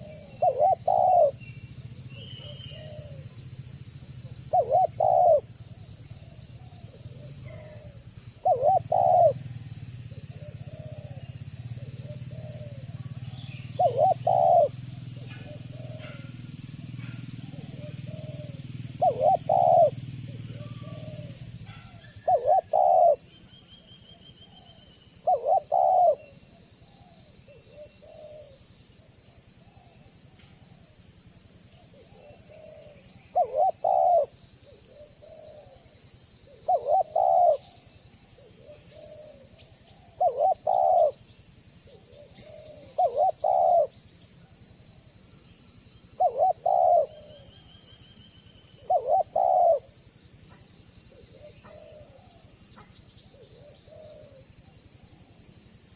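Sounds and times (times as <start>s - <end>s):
dove cooing: 0.0s - 23.4s, 24.0s - 28.8s, 31.7s - 44.8s, 45.8s - 55.6s.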